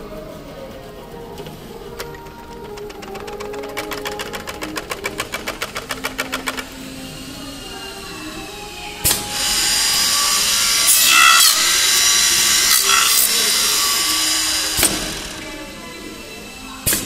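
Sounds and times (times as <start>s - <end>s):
high-pitched machining noise: 1.6s - 17.0s.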